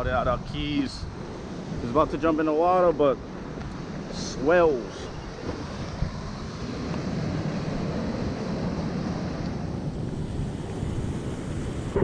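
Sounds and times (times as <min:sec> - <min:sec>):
ocean surf washing in: 0:00.0 - 0:12.0
wind buffeting microphone: 0:00.0 - 0:12.0.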